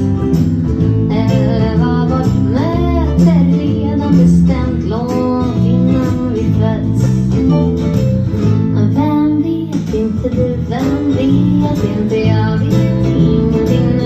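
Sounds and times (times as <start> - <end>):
plucked ukulele bass line: 0.0 - 14.0
strummed guitar-like accompaniment: 0.0 - 14.0.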